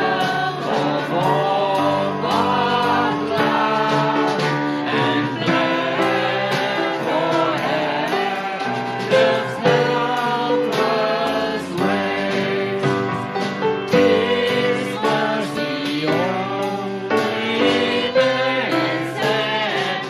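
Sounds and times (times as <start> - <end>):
congregation singing a hymn: 0.0 - 20.0
drums beat: 0.0 - 20.0
piano: 0.0 - 20.0.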